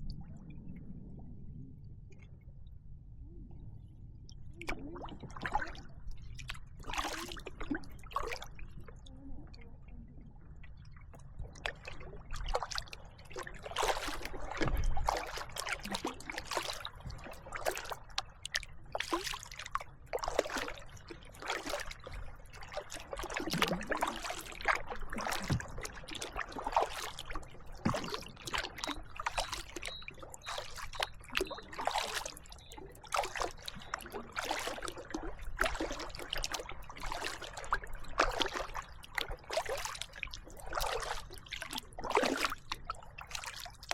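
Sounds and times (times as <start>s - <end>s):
paddle splashing water: 4.6s - 8.9s, 11.2s - 43.9s.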